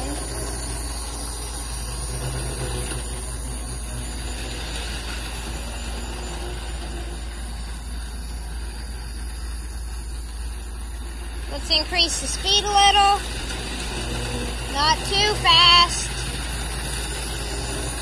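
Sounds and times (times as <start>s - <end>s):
constant low hum: 0.0s - 18.0s
model train motor whirring: 0.0s - 18.0s.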